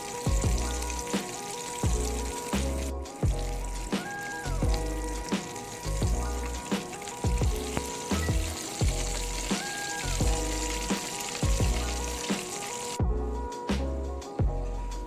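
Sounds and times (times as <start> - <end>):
food sizzling in oil: 0.0 - 13.0
background music with beat: 0.0 - 15.0.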